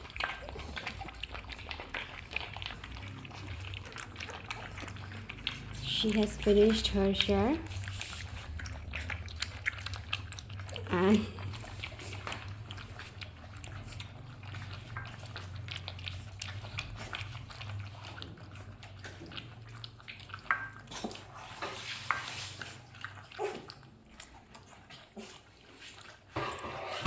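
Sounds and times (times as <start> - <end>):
puppies lapping milk: 0.0 - 27.0.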